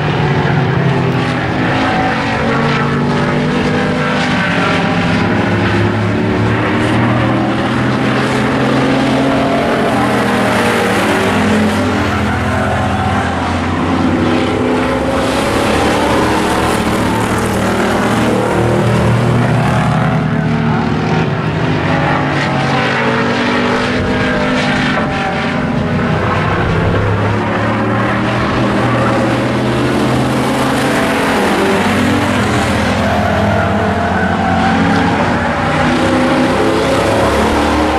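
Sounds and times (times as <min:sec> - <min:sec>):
race car engines: 0:00.0 - 0:37.9.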